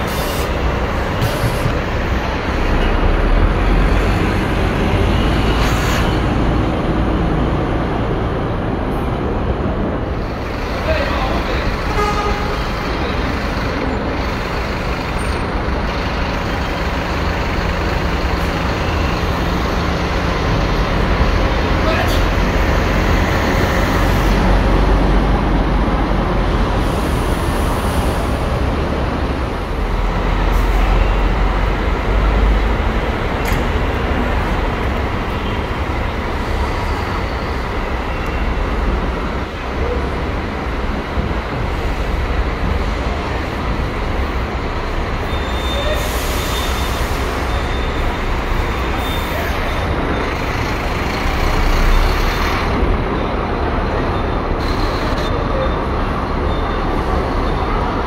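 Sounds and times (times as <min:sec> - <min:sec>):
diesel bus engines rumbling: 0:00.0 - 0:58.0.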